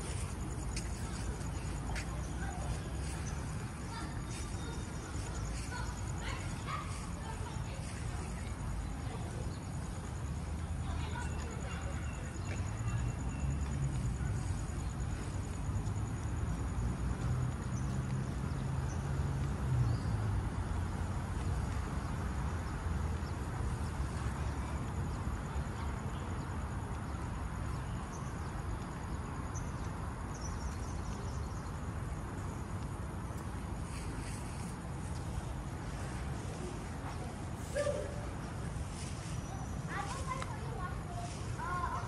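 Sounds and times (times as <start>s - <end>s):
distant traffic rumble: 0.0s - 42.0s.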